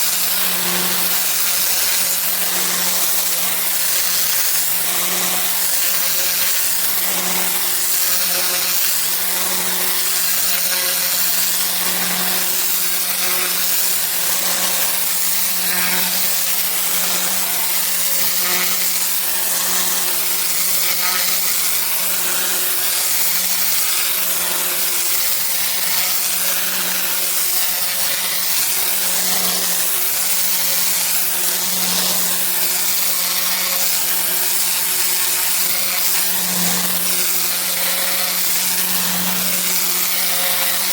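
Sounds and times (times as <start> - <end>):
water spray hissing on paving: 0.0 - 9.3, 9.9 - 15.6, 16.2 - 31.4, 32.0 - 40.9
pressure washer hum: 0.0 - 40.9.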